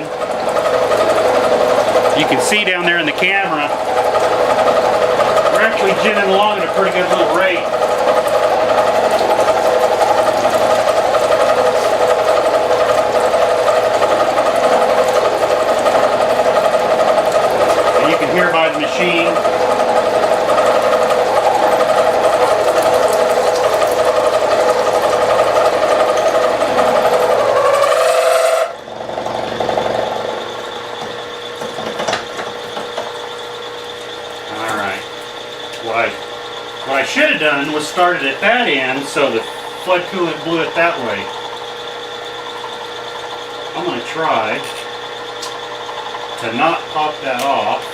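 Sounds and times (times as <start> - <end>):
milling machine cutting metal: 0.0 - 47.9.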